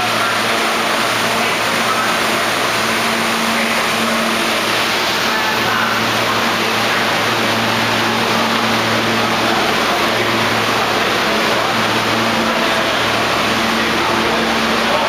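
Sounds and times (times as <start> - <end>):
subway train rushing: 0.0 - 15.0.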